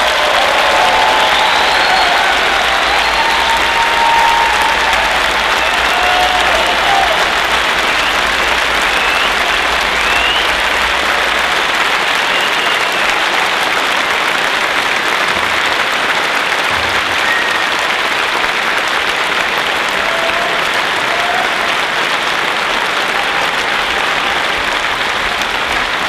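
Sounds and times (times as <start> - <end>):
large audience applauding: 0.0 - 26.0.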